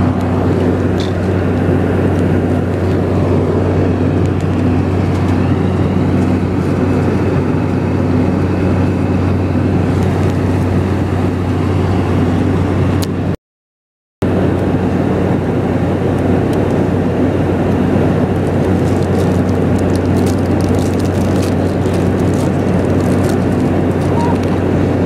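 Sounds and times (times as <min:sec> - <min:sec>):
airliner cabin rush: 0:00.0 - 0:13.0, 0:14.4 - 0:25.0.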